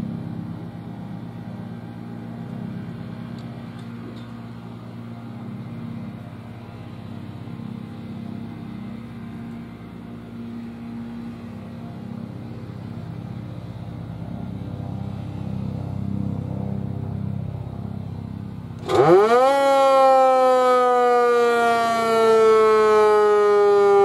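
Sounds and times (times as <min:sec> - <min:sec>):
siren low growl: 0:00.0 - 0:24.0.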